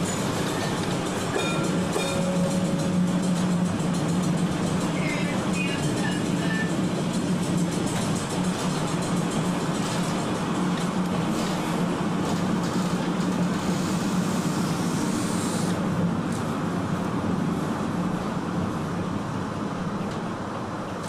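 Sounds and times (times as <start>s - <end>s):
streetcar rolling on track: 0.0s - 21.0s.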